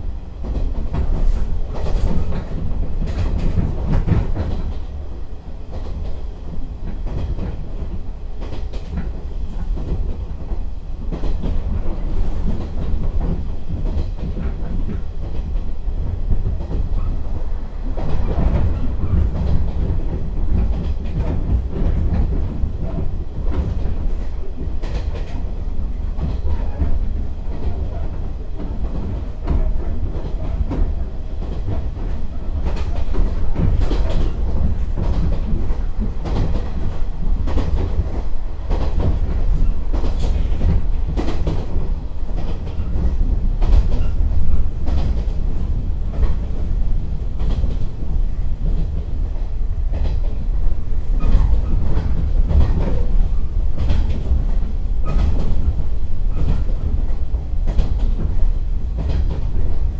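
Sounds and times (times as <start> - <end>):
train wheels rumbling on rail: 0.0 - 59.9
rail-joint clicks: 0.4 - 4.9, 5.7 - 59.9.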